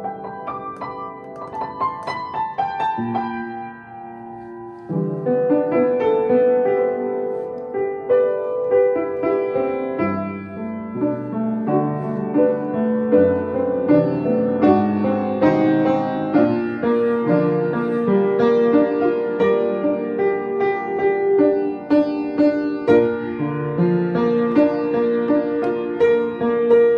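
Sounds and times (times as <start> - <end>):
solo piano melody: 0.0 - 26.9.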